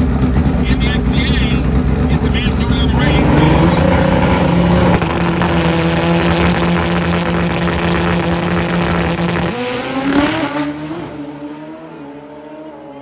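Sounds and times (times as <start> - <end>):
motorcycle engines at high revs: 0.0 - 13.0
quieter engine rising in pitch: 0.0 - 13.0.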